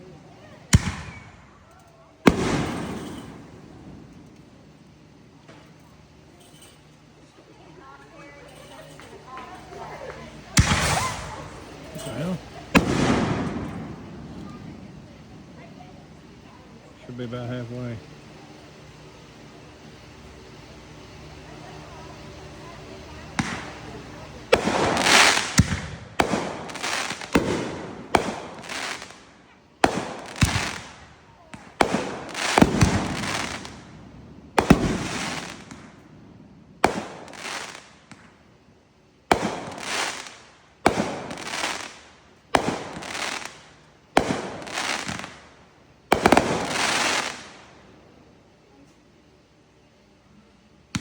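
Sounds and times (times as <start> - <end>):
fireworks bangs: 0.0 - 38.6, 39.2 - 48.4.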